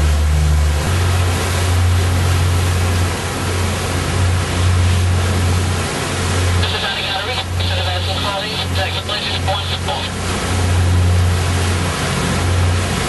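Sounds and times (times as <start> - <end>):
low engine rumble: 0.0 - 13.0
wind and rushing water: 0.0 - 13.0.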